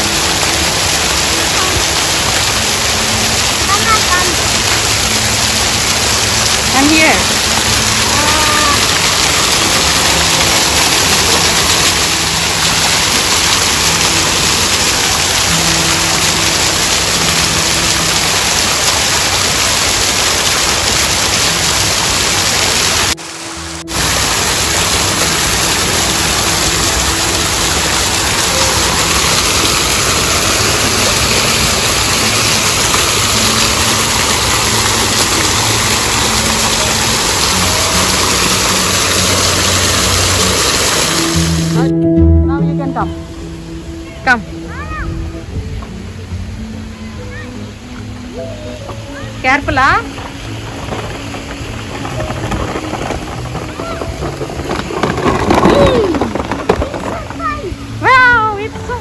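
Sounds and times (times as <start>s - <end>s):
faint music: 0.0s - 59.0s
fountain water splashing: 0.0s - 59.0s.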